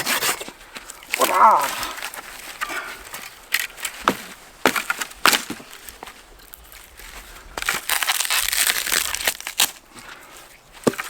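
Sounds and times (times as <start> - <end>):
rustling: 0.0 - 11.0
firewood cracking and snapping: 0.6 - 10.2.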